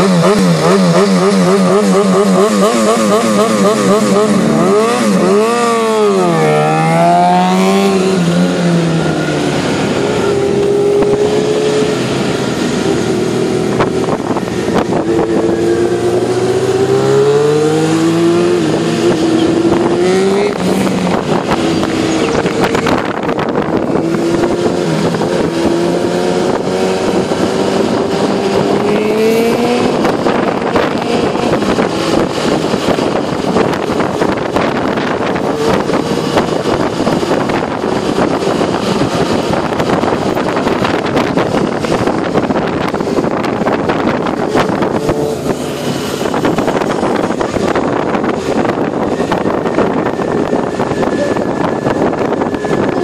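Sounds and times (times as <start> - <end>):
motorcycle engine accelerating: 0.0 - 53.0
wind rush: 0.0 - 53.0.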